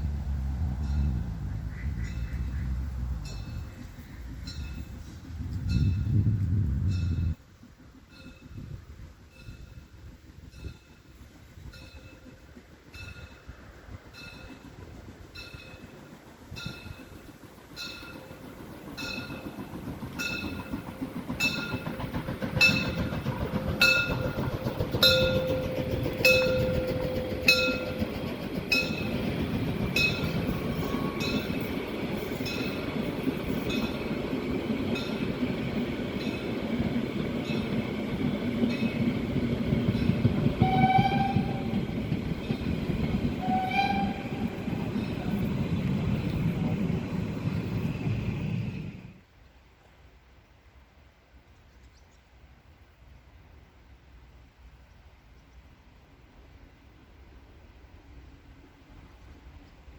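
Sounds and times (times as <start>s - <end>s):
steam train rumbling past: 0.0s - 51.6s.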